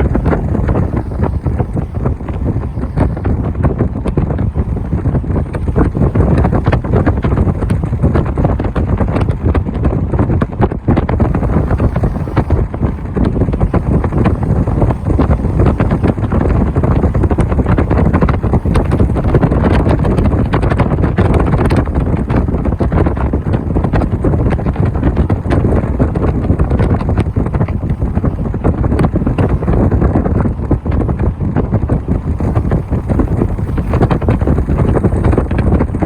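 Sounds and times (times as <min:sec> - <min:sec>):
car driving noise: 0:00.0 - 0:36.0
wind buffeting microphone: 0:00.0 - 0:36.0.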